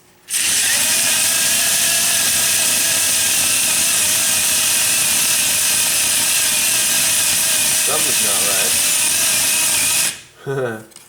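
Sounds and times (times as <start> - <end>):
electric motors whirring whine: 0.3 - 10.3.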